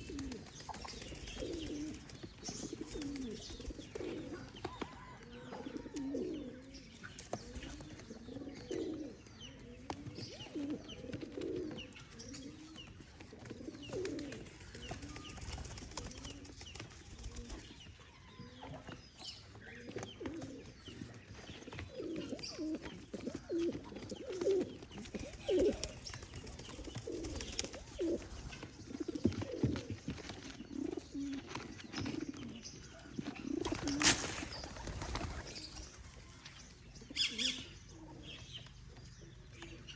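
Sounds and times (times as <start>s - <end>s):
pigeons cooing: 0.0s - 36.4s, 37.0s - 39.9s.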